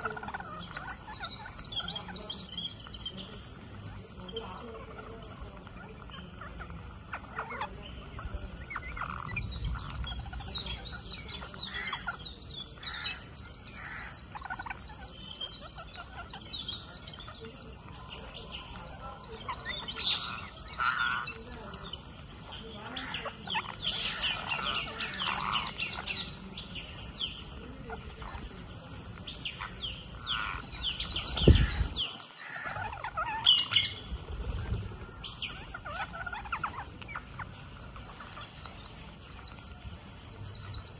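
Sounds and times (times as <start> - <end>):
parakeets chirping and squawking: 0.0 - 40.9.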